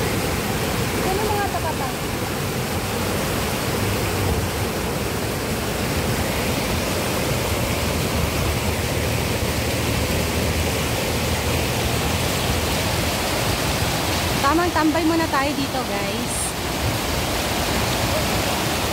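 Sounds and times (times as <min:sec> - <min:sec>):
water rushing down a weir: 0:00.0 - 0:18.9.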